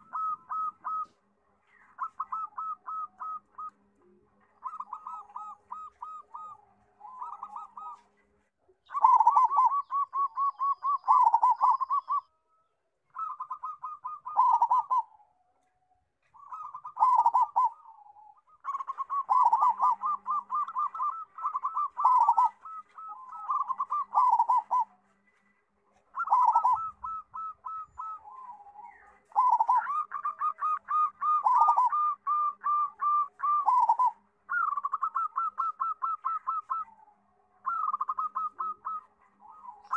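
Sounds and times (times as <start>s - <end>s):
dove cooing: 0.0s - 12.4s, 13.1s - 39.9s.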